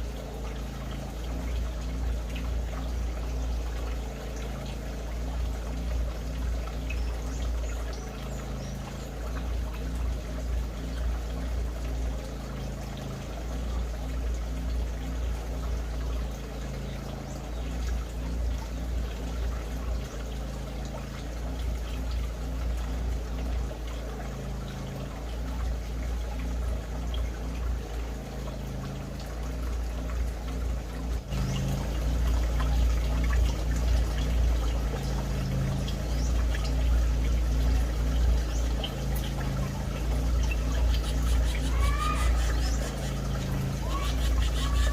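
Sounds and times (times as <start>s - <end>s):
low hum: 0.0s - 44.9s
water trickling: 0.0s - 44.9s.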